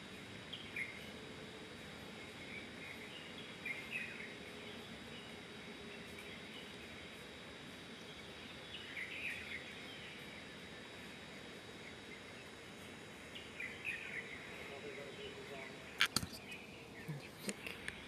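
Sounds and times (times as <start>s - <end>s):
outdoor background hiss: 0.0s - 18.0s
small birds chirping: 0.4s - 18.0s.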